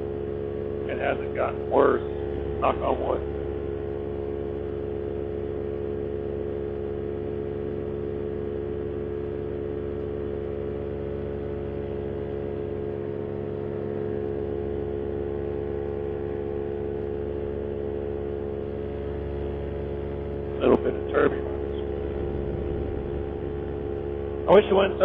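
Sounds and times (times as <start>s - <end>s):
paramotor engine and propeller: 0.0s - 25.0s.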